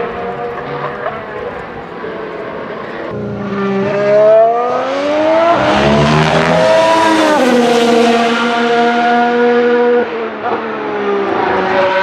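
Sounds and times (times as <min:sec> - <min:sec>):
racing car engine: 0:00.0 - 0:12.0.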